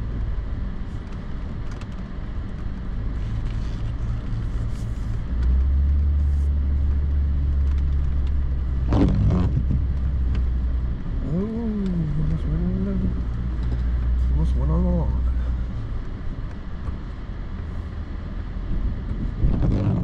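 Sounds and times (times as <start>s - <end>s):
vehicle engine droning and revving: 0.0s - 20.0s.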